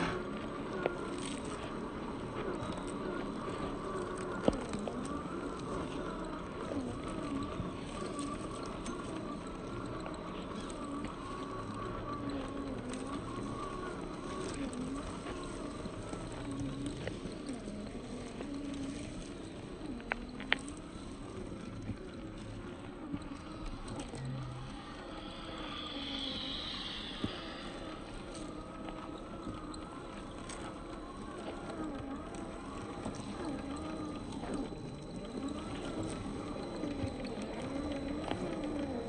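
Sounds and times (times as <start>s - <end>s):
electric motor and gear whine: 0.0s - 39.0s
tyres crunching over stones: 0.0s - 39.0s.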